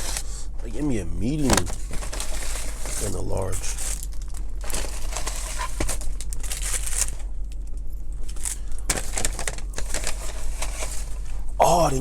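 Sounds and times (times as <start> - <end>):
paper bag and wrappers rustling: 0.0 - 0.5, 1.2 - 12.0.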